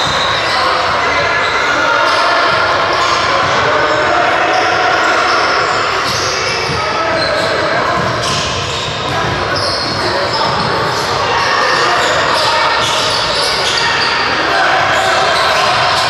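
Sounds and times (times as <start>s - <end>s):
reverberant hall din: 0.0s - 16.0s.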